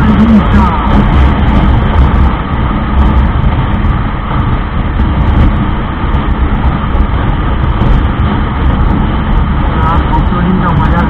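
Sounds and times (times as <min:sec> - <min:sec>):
motorcycle engine running: 0:00.0 - 0:10.4
wind rushing on microphone: 0:00.0 - 0:11.0.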